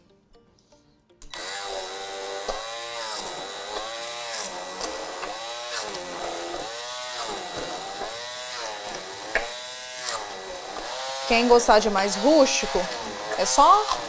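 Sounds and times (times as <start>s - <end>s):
immersion blender motor: 1.2s - 14.0s.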